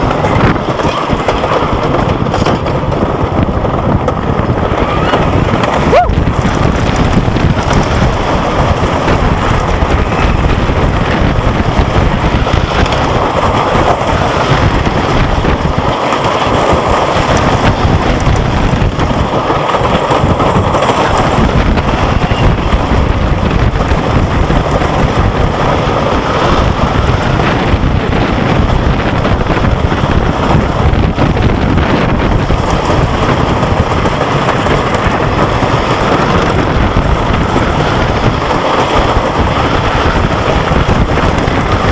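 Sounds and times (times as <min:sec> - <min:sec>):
roller coaster train rumbling: 0:00.0 - 0:41.9
wind rushing over microphone: 0:00.0 - 0:41.9.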